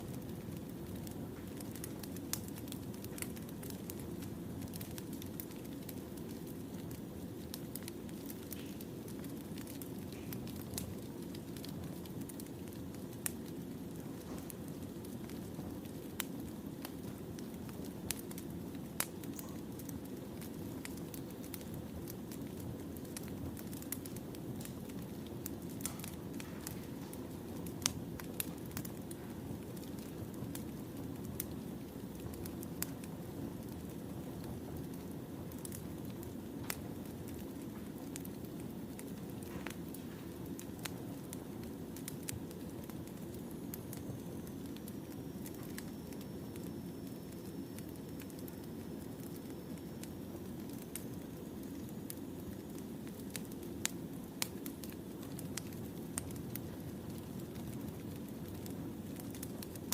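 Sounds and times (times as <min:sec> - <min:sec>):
logs crackling and popping: 0:00.0 - 0:59.9
low rush of flames: 0:00.0 - 0:59.9.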